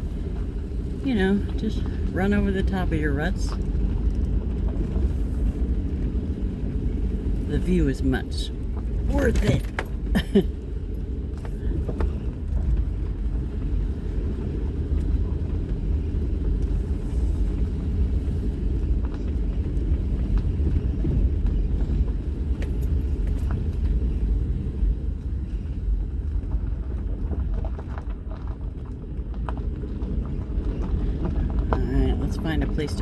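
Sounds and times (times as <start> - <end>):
vehicle rumbling on dirt road: 0.0 - 33.0.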